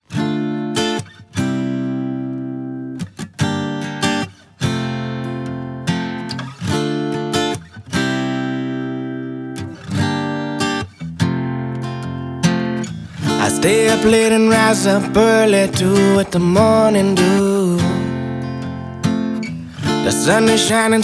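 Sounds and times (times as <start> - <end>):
acoustic guitar strummed chords: 0.0 - 21.0.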